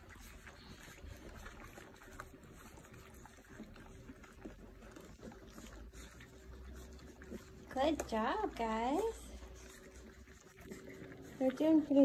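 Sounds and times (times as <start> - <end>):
puppies lapping and slurping: 0.0 - 12.0.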